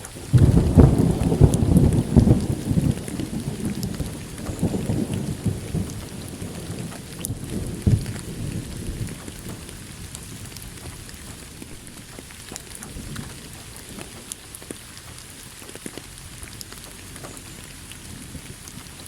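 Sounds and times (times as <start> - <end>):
rain pattering: 0.0 - 19.0
thunder rumble: 0.0 - 19.0.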